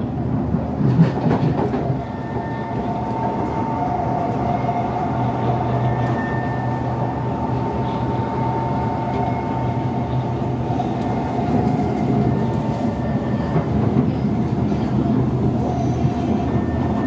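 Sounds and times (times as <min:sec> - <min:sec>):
train wheels rumbling on rails: 0:00.0 - 0:17.0
train motor hum: 0:01.4 - 0:17.0.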